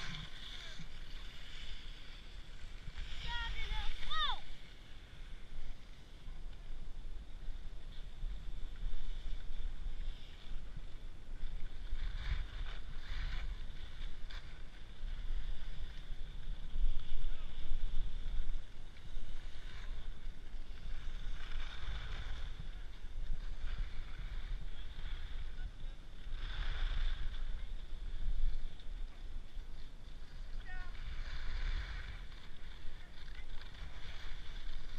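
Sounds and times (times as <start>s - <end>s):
skis scraping on snow: 0.0s - 6.4s, 7.1s - 34.9s
wind buffeting microphone: 0.0s - 34.9s.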